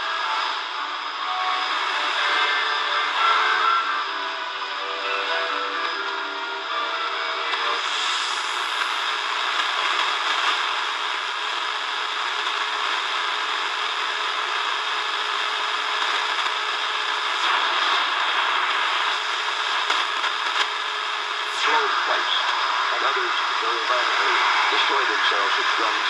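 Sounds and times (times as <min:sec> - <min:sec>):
radio static hissing: 0:00.0 - 0:26.0.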